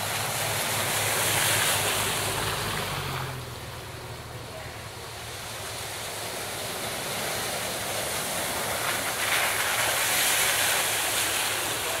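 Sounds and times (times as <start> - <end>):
tyres splashing through muddy water: 0.0 - 12.0.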